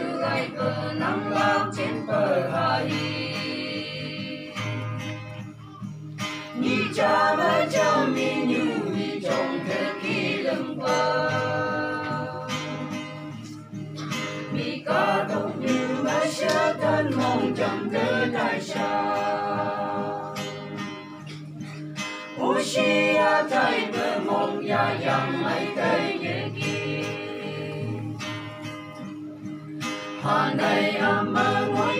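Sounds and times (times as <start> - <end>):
group singing gospel song: 0.0 - 5.0, 6.5 - 13.5, 14.2 - 21.1, 22.4 - 28.5, 30.2 - 31.9
acoustic guitar: 0.0 - 31.9.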